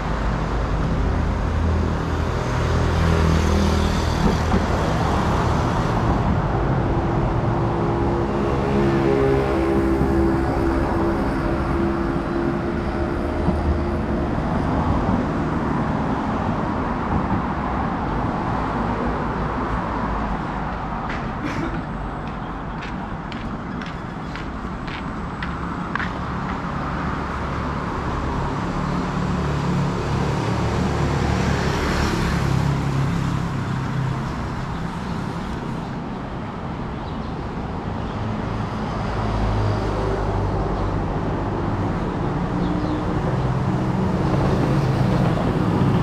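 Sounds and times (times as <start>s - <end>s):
cars passing: 0.0s - 46.0s.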